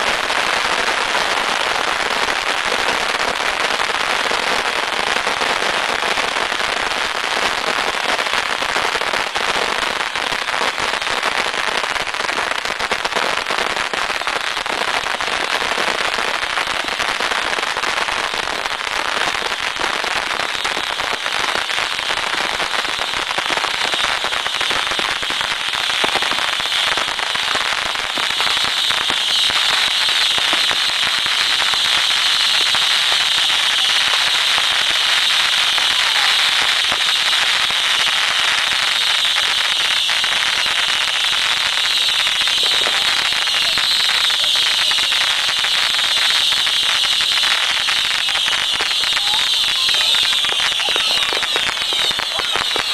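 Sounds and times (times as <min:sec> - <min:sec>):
fireworks crackling and banging: 0:00.0 - 0:52.9.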